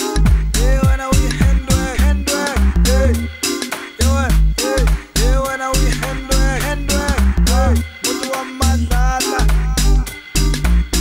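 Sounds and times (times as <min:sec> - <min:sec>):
pop music with drum beat: 0:00.0 - 0:11.0.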